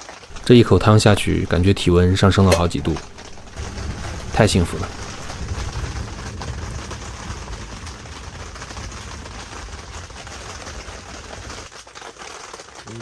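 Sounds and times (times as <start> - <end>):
rain pattering on a tent: 0.0 - 13.0.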